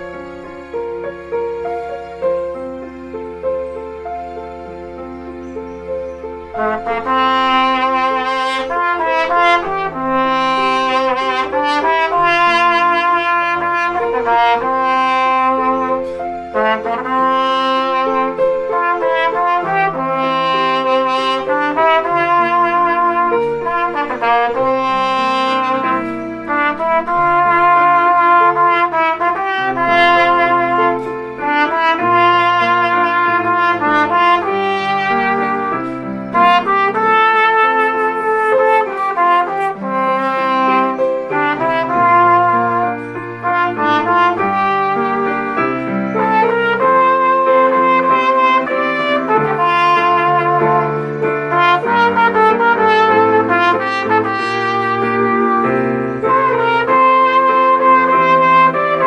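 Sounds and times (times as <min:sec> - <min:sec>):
brass ensemble playing chords: 0:00.0 - 0:59.0.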